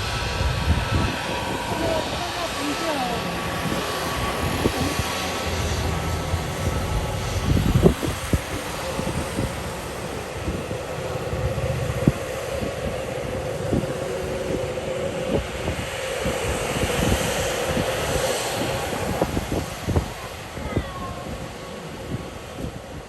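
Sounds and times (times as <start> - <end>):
jet engines whining: 0.0 - 23.0
wind buffeting microphone: 0.0 - 23.0.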